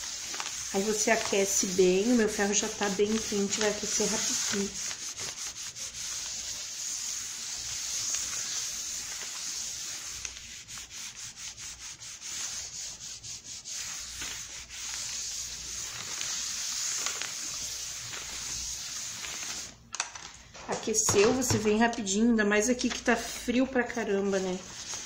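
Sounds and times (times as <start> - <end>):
iron rubbing over paper: 0.0 - 19.8, 24.0 - 25.0.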